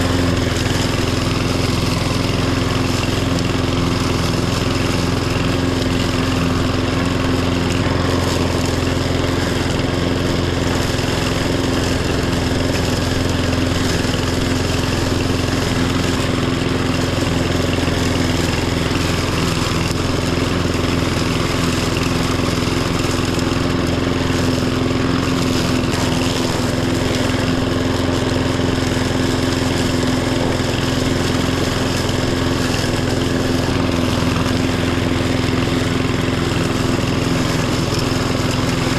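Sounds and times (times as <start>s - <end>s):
lawn tractor engine droning: 0.0s - 38.9s.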